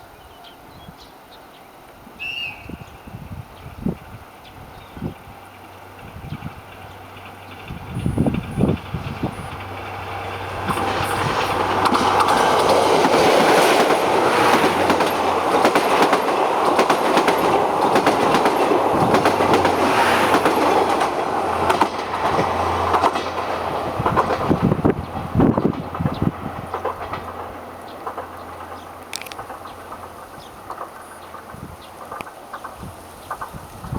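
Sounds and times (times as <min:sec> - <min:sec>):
train rolling past: 0:00.0 - 0:33.9
wheels clacking over rail joints: 0:05.0 - 0:33.9.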